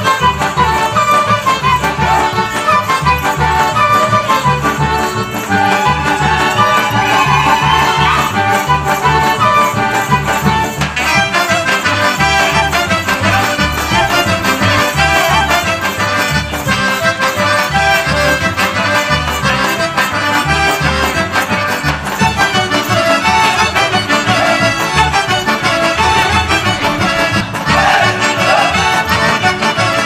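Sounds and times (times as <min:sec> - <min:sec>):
accordion folk dance music: 0:00.0 - 0:30.0.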